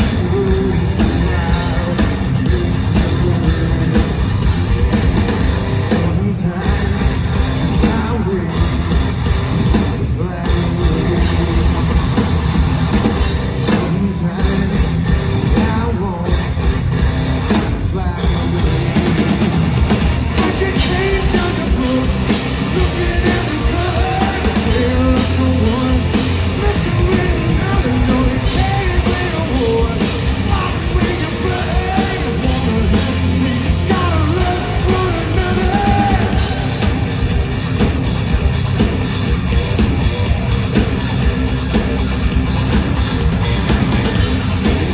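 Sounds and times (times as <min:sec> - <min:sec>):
live hard rock band: 0:00.0 - 0:44.9.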